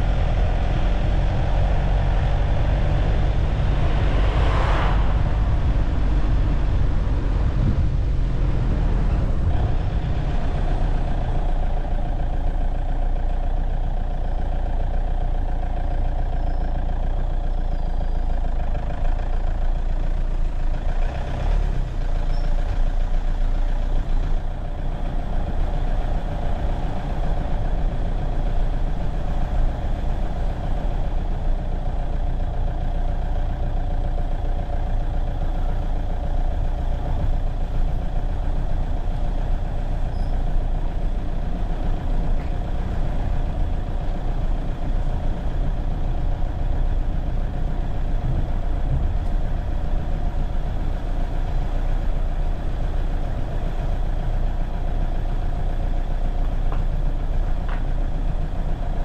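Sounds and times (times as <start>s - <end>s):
road noise: 0.0s - 59.0s
vehicle engine running: 0.0s - 59.0s.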